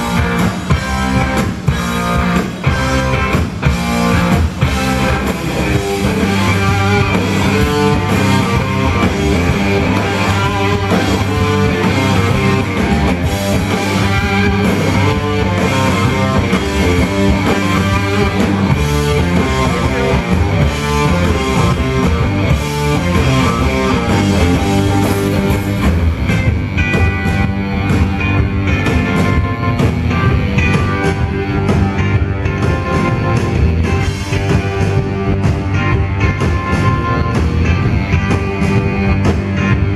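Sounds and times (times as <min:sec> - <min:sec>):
electric guitars: 0:00.0 - 0:39.9
live rock band playing: 0:00.0 - 0:39.9.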